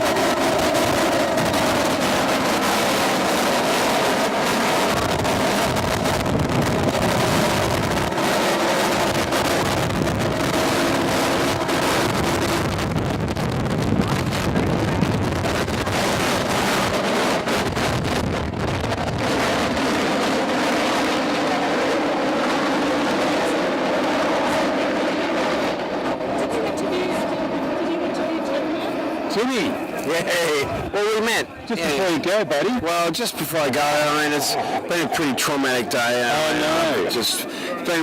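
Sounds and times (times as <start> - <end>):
helicopter rotor and engine: 0.0 - 38.0
wind buffeting microphone: 0.0 - 38.0.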